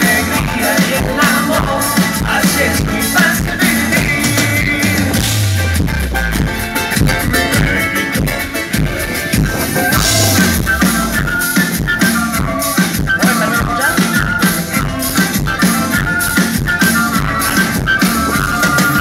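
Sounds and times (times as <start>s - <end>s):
band playing amplified music: 0.0s - 19.0s
bass line: 0.0s - 19.0s
steady drum beat: 0.0s - 19.0s.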